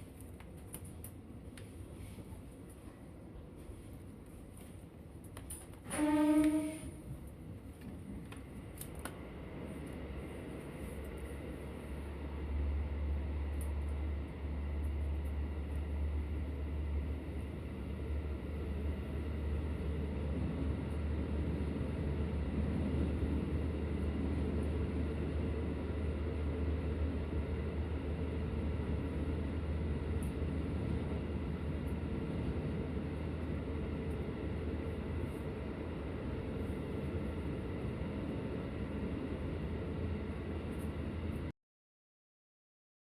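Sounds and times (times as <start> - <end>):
train carriage rumble and hum: 0.0 - 41.5.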